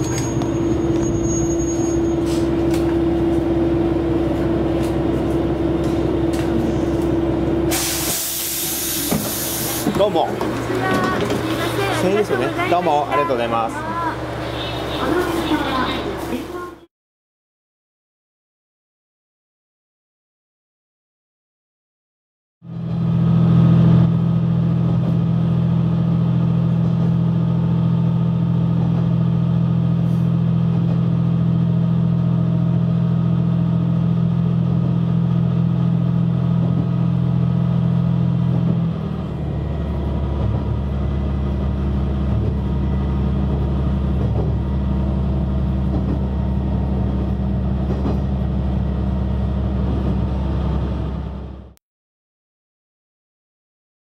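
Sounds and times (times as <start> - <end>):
diesel railcar engine humming: 0.0 - 16.9, 22.7 - 51.8.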